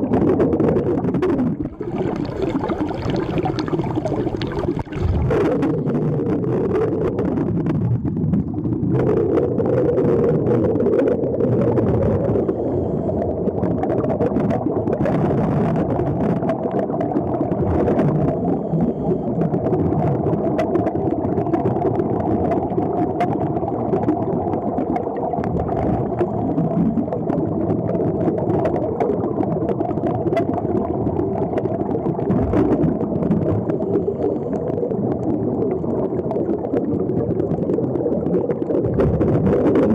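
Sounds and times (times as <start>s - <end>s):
underwater air bubbles gurgling: 0.0s - 39.9s.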